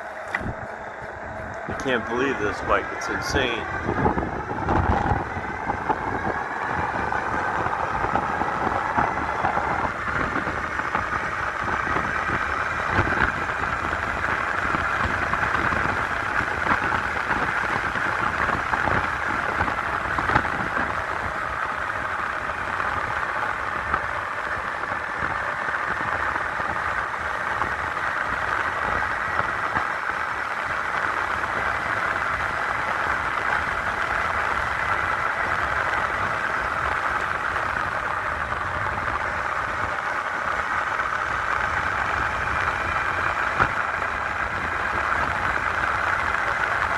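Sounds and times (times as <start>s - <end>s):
electric bike motors whining: 0.0s - 46.9s
wind noise on microphone: 0.0s - 46.9s.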